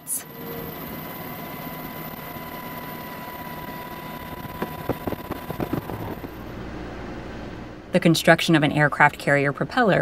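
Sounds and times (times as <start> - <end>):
high whine: 0.0 - 9.6
engine drone: 0.0 - 10.0.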